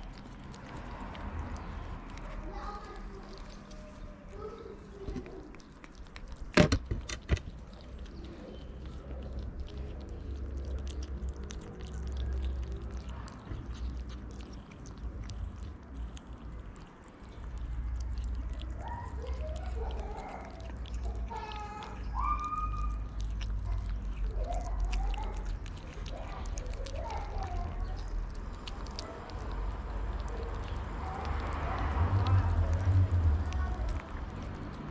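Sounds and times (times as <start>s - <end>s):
kittens chewing wet food: 0.0s - 34.9s.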